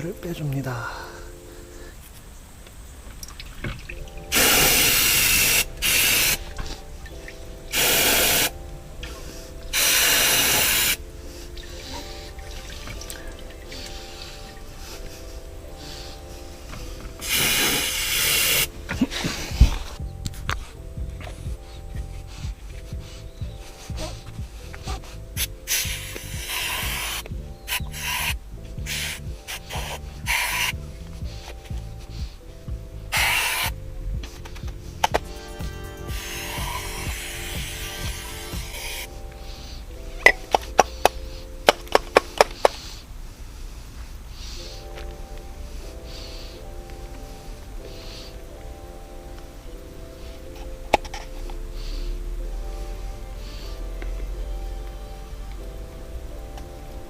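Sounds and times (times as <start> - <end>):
background music with beat: 3.6 - 43.1, 44.3 - 57.0
pressurised spray hissing: 4.1 - 41.8, 42.4 - 48.4, 51.4 - 54.4.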